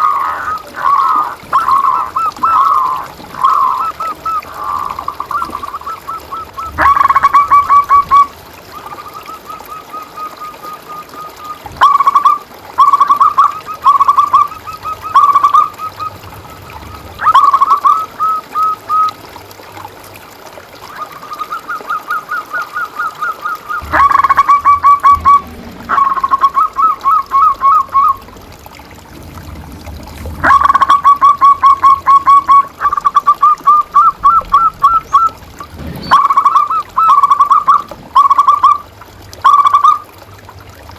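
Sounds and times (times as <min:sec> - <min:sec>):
doves cooing: 0:00.0 - 0:19.5, 0:20.8 - 0:40.7.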